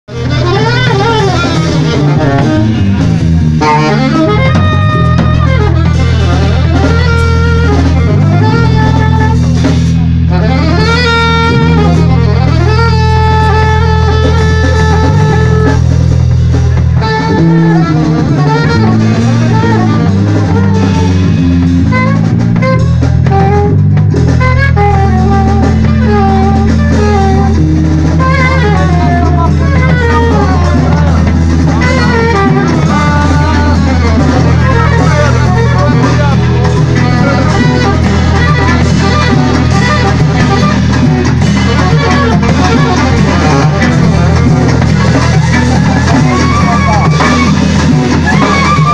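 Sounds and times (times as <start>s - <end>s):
deep bass: 0.0s - 48.9s
guitar: 0.0s - 48.9s
live band playing: 0.0s - 48.9s
drum kit: 0.1s - 48.9s.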